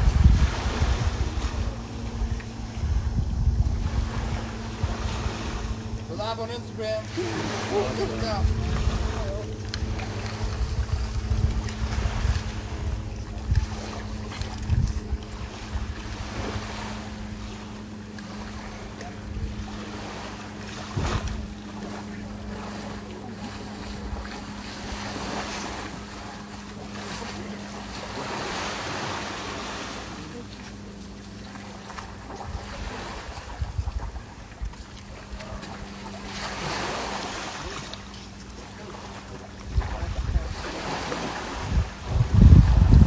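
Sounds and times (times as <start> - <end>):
wind gusting on microphone: 0.0 - 29.7, 32.2 - 38.5, 39.2 - 43.0
small waves washing ashore: 0.0 - 43.0
steady low hum: 0.0 - 43.0.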